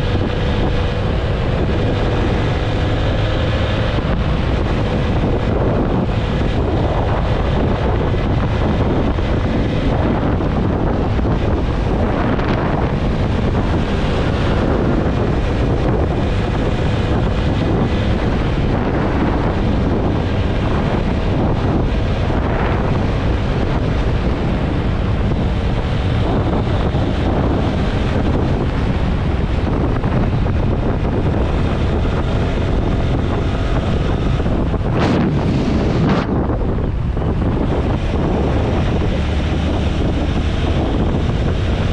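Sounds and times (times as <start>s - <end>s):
motorcycle engine: 0.0s - 41.9s
road noise: 0.0s - 41.9s
wind buffeting microphone: 0.0s - 41.9s.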